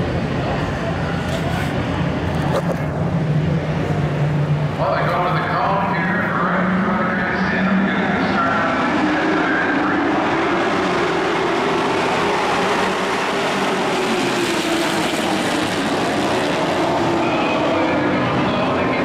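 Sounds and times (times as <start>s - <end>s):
race truck engines: 0.0s - 19.0s.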